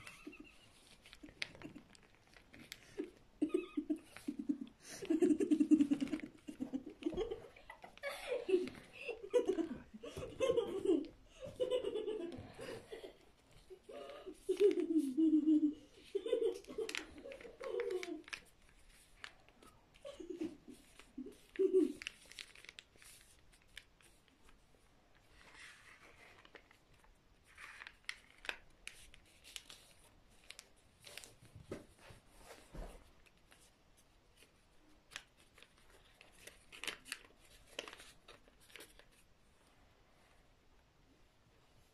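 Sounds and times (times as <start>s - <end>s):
paper crinkling and creasing: 0.0s - 39.4s.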